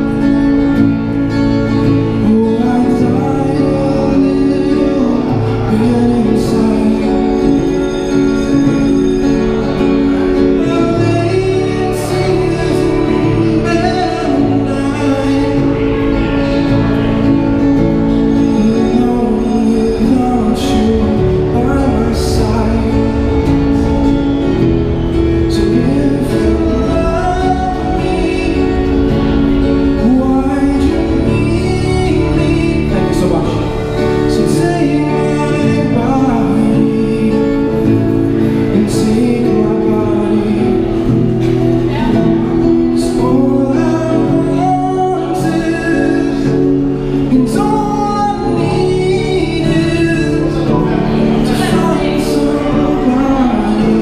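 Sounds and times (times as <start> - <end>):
acoustic guitar: 0.0 - 54.0
man singing into microphone: 0.0 - 54.0.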